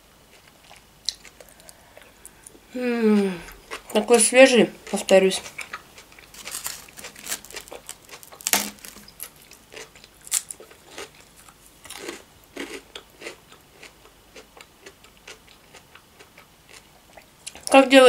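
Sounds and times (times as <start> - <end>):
person chewing crunchy salad: 0.3 - 2.7, 3.4 - 4.2, 4.8 - 17.7.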